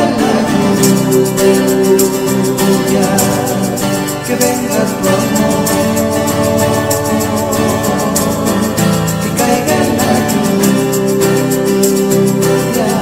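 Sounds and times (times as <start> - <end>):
held chords over steady beat: 0.0 - 13.0.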